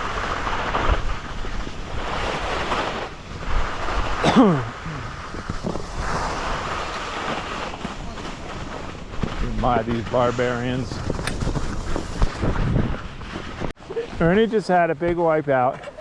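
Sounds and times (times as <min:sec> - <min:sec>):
wind rushing over microphone: 0:00.0 - 0:14.5
skis hissing on snow: 0:00.0 - 0:15.7.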